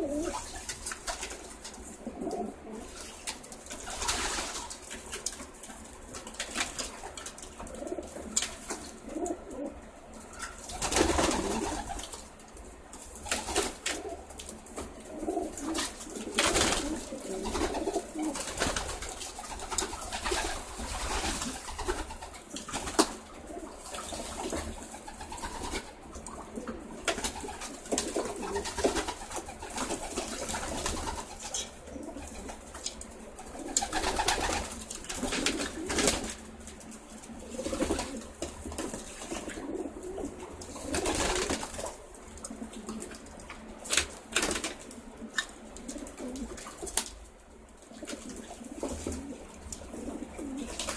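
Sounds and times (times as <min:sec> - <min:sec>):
pigeons cooing: 0:00.0 - 0:50.9
wings fluttering: 0:00.0 - 0:50.9.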